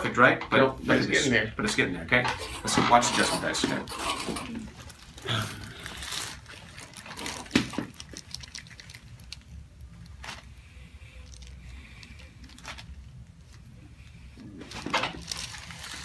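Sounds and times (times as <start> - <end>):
rustling of clothing and paper: 2.4 - 16.0.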